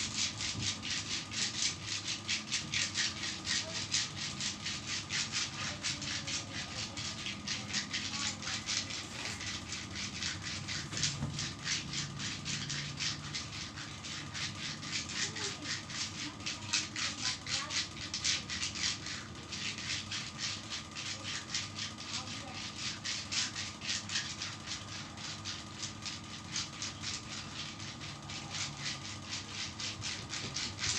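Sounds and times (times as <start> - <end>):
hands rubbing over skin: 0.0 - 30.9.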